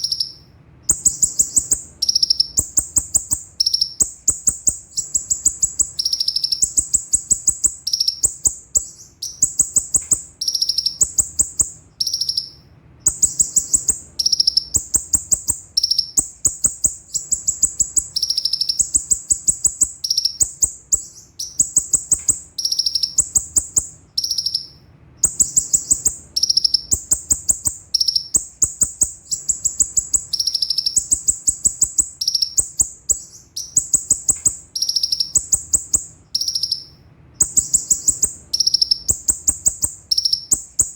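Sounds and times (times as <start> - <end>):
bird singing high-pitched trills: 0.0 - 40.9.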